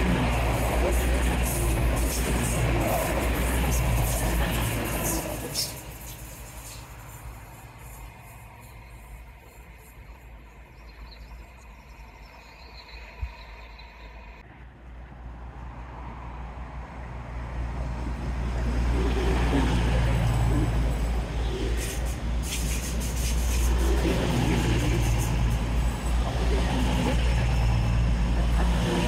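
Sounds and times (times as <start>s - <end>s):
diesel train rumbling: 0.0s - 29.0s.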